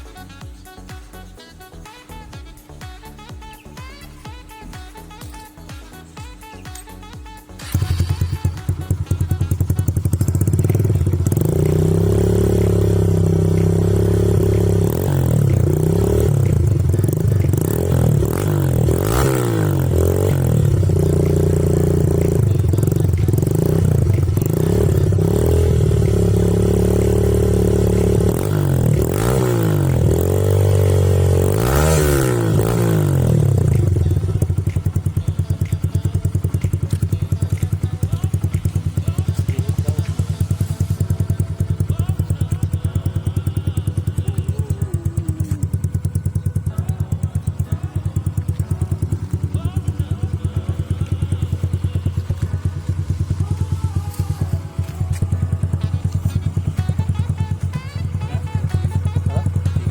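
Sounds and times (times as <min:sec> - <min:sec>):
motorcycle engine revving: 0:02.6 - 0:59.9.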